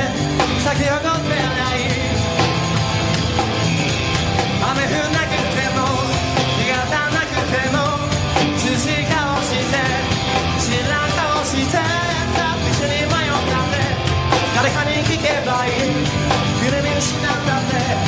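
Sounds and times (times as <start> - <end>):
man singing: 0.0 - 2.5, 4.5 - 18.0
electric guitar: 0.0 - 18.0
live rock band playing: 0.0 - 18.0.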